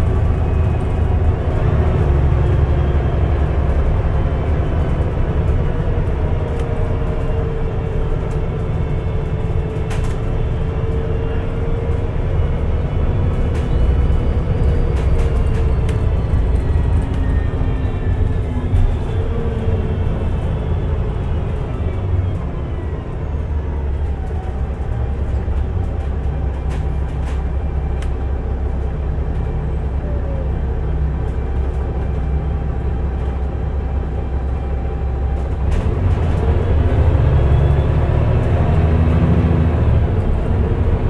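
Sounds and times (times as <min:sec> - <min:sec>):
bus engine and gearbox whine: 0:00.0 - 0:41.0.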